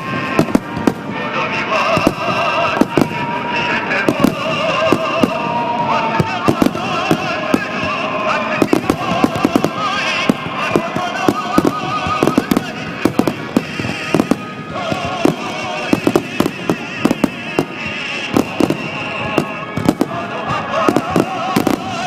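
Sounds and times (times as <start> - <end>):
fireworks bangs: 0.0 - 22.0
fireworks rumble and crackle: 0.0 - 22.0.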